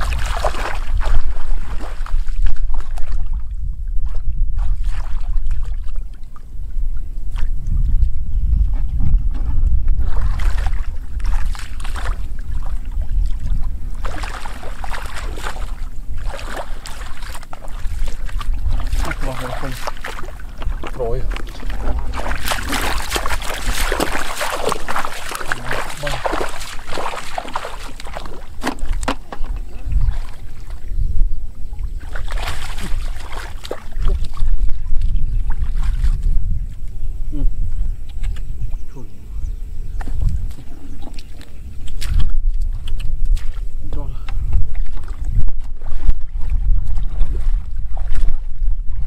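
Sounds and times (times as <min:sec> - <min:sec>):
splashing in shallow water: 0:00.0 - 0:49.0
wind rumble on microphone: 0:00.0 - 0:49.0.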